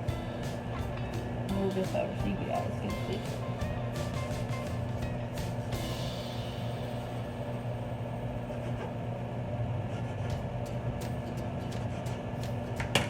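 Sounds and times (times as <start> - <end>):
electric appliance humming: 0.0 - 13.0.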